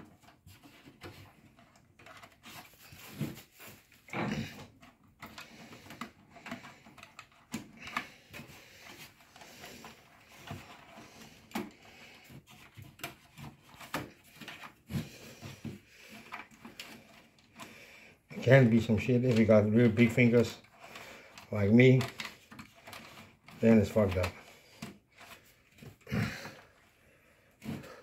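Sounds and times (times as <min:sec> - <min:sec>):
cables clicking and rustling: 0:00.0 - 0:28.0.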